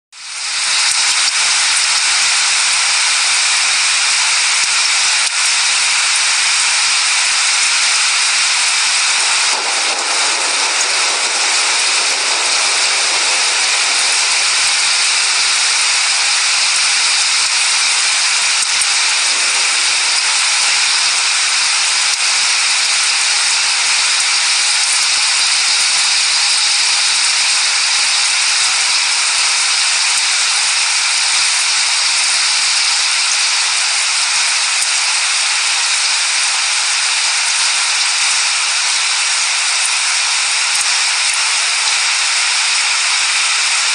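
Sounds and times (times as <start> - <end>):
heavy rainfall: 0.2 - 43.9.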